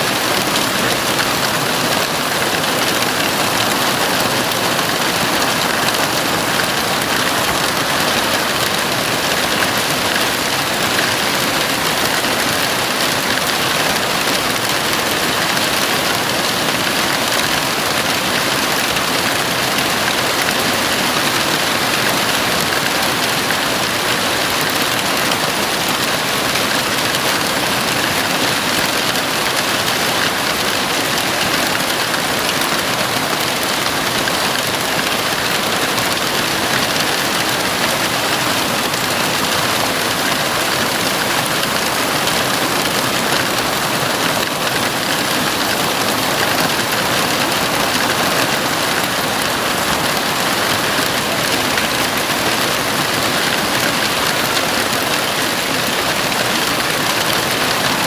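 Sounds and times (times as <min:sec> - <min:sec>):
heavy rain on roof: 0:00.0 - 0:58.0.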